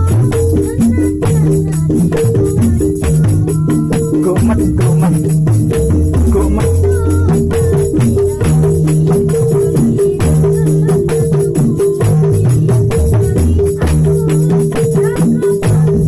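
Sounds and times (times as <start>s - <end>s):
small hand drums fast rhythm: 0.0s - 16.0s.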